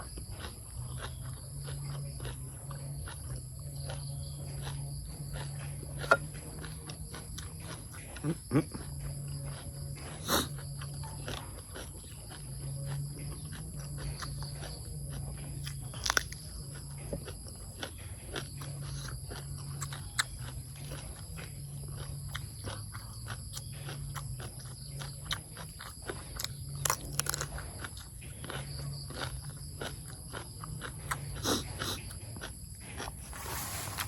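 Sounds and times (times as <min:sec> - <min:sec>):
person chewing: 0:00.0 - 0:34.0.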